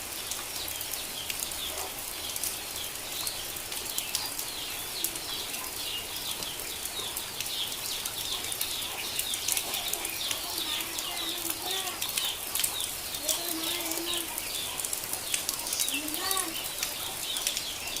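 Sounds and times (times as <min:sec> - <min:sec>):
rain drips and splashes: 0:00.0 - 0:18.0.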